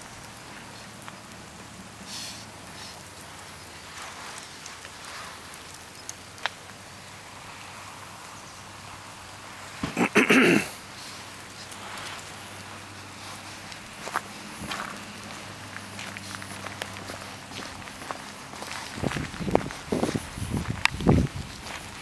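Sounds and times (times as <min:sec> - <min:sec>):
light rain on pavement: 0:00.0 - 0:22.0.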